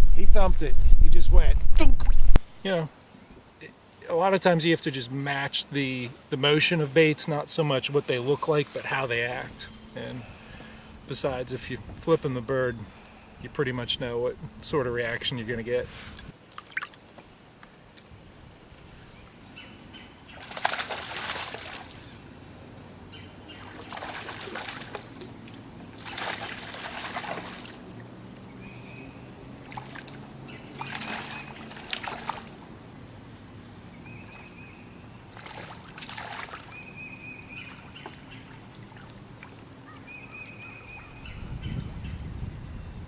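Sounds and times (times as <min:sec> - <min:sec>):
water splashing and trickling: 0:04.0 - 0:17.2, 0:19.8 - 0:32.8, 0:34.0 - 0:43.0.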